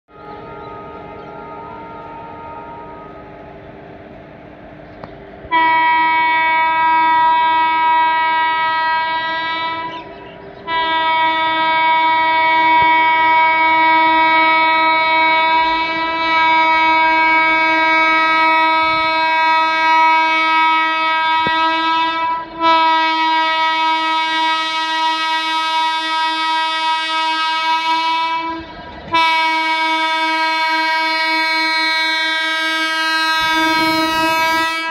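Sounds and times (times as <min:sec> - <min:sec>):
locomotive horn blasts: 0:00.1 - 0:03.4, 0:05.5 - 0:34.9.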